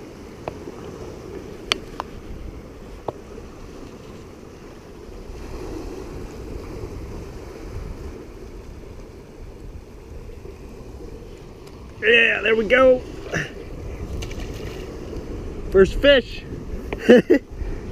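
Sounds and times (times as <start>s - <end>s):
ocean surf on rocky shore: 0.0s - 17.9s
wind buffeting microphone: 0.0s - 17.9s.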